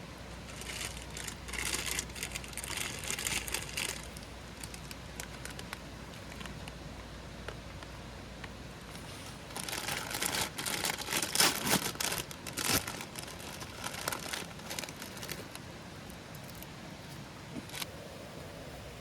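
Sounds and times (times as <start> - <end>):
crinkling and rustling handling noise: 0.4 - 6.8, 7.4 - 17.9.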